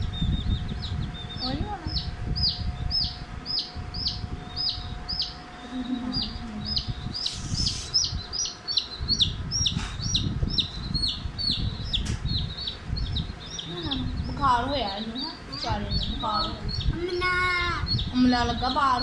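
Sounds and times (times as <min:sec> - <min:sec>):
chicks peeping: 0:00.0 - 0:19.0
low rumble: 0:00.0 - 0:19.0.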